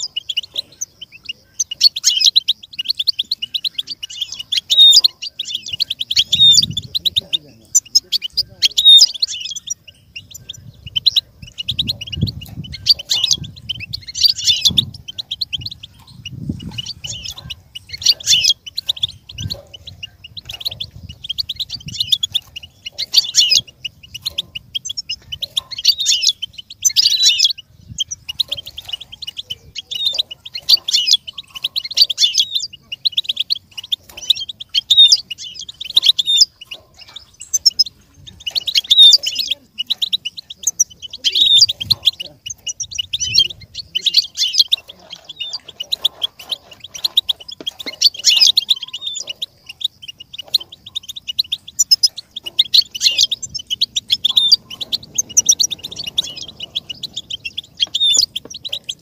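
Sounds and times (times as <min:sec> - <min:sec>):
goldfinch twittering song: 0:00.0 - 0:59.0.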